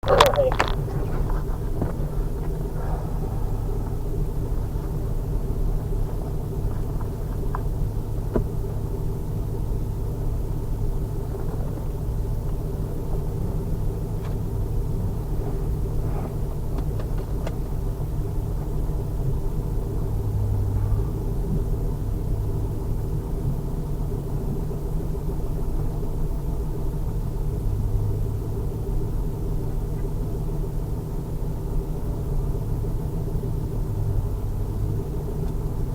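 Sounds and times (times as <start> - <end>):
car engine rumbling: 0.0 - 35.9.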